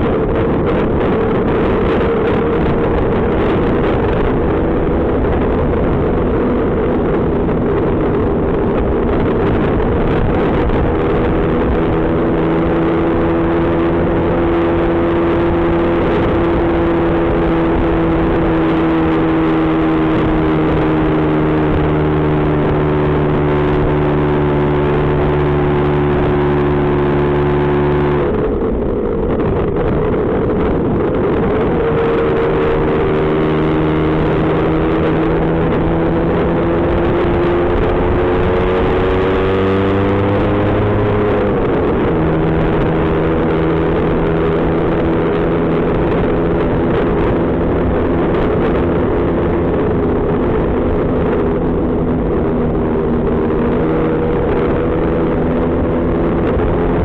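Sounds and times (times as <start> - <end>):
scooter engine accelerating: 0.0 - 57.0
wind and road noise: 0.0 - 57.0.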